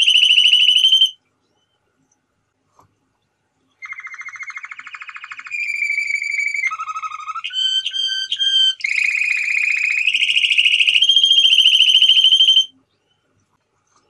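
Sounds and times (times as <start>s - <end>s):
canary singing trills: 0.0s - 1.8s, 3.8s - 13.3s.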